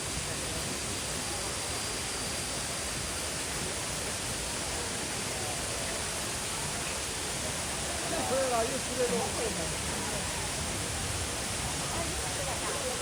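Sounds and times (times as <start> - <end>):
faint high whine: 0.0 - 13.0
steady rushing noise: 0.0 - 13.0.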